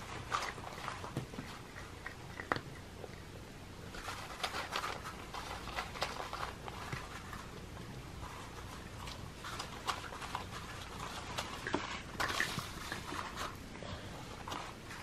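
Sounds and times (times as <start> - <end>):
cats crunching dry kibble: 0.0 - 15.0.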